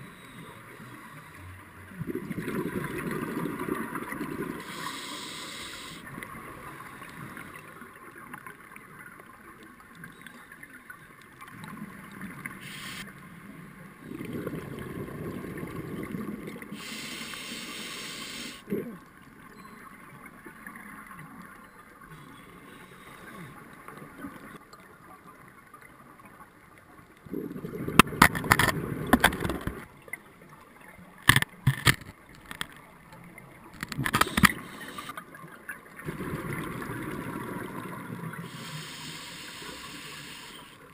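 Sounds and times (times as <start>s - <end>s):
regulator bubbles gurgling underwater: 0.0s - 31.1s, 32.5s - 40.9s.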